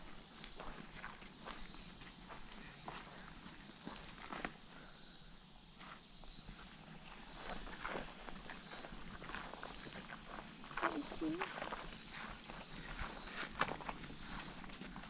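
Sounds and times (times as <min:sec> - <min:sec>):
footsteps on trail: 0:00.0 - 0:04.7, 0:05.7 - 0:15.0
insects droning: 0:00.0 - 0:15.0.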